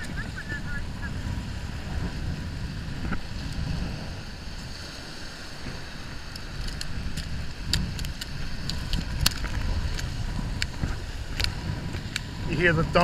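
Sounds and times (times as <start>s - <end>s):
low surf noise: 0.0s - 13.0s
wind buffeting microphone: 0.0s - 13.0s.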